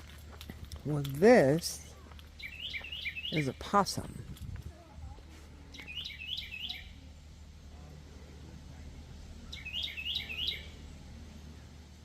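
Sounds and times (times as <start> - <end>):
low steady hum: 0.0 - 12.0
songbird singing: 0.0 - 12.0.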